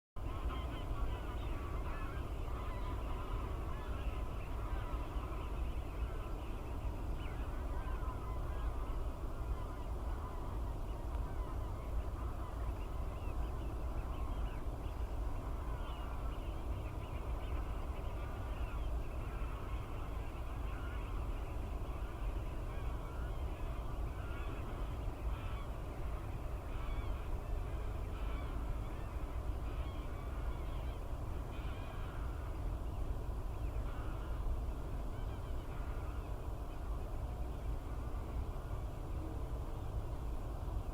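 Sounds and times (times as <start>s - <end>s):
geese and waterfowl calling: 0.2s - 32.8s, 33.6s - 36.4s
wind rumble on microphone: 0.2s - 40.9s.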